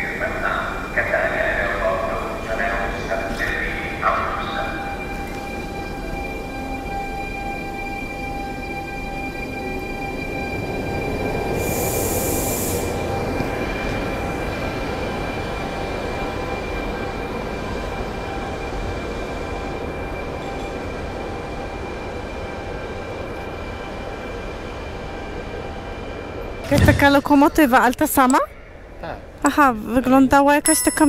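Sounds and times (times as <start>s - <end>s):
train low rumble: 0.0s - 30.5s.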